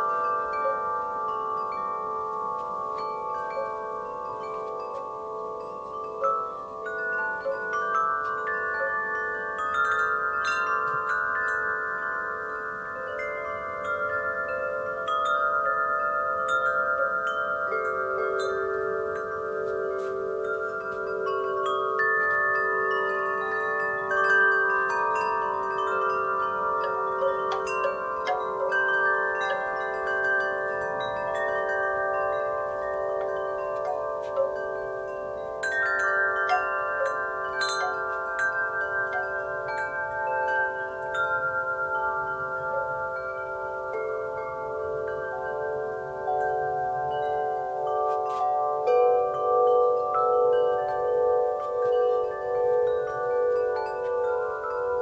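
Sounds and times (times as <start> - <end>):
wind chimes ringing: 0.0 - 55.0.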